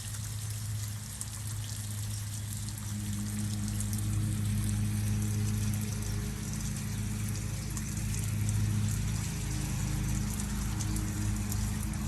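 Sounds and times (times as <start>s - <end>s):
steady low hum: 0.0s - 12.0s
water trickling down rain chain: 0.0s - 12.0s.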